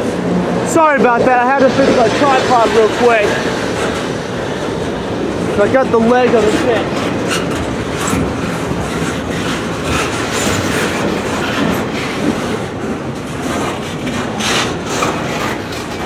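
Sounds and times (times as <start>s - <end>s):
train wheels rumbling on rail: 0.0s - 16.0s
wheels clacking over rail joints: 0.0s - 16.0s.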